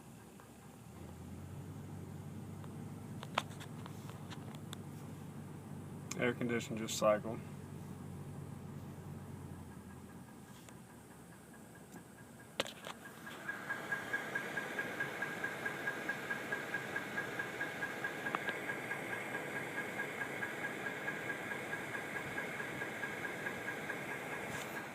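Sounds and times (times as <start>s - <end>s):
engine running with knock: 0.0s - 24.9s.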